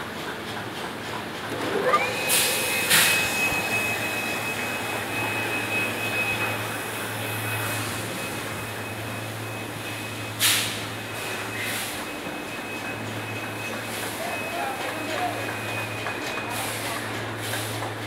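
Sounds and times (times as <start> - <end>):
machinery high-pitched whine: 0.9 - 18.0.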